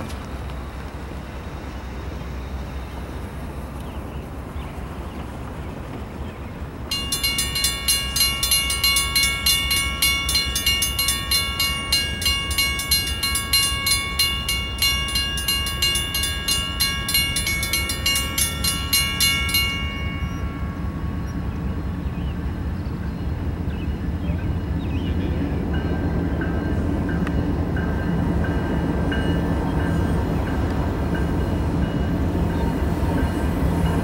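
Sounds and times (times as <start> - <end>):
railroad crossing bells ringing: 0.0 - 34.0.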